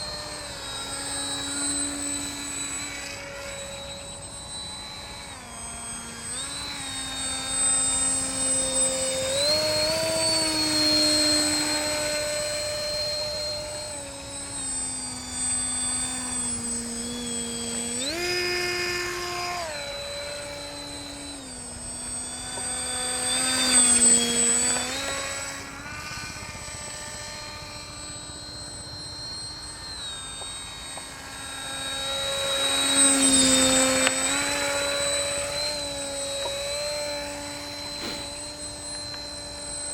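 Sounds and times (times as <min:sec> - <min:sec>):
model aircraft motor and propeller: 0:00.0 - 0:39.9.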